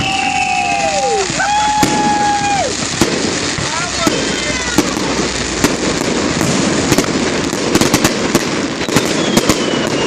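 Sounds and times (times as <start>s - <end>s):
firework bangs: 0.0s - 10.0s
firework whistles: 0.0s - 10.0s
fireworks crackling: 0.0s - 10.0s.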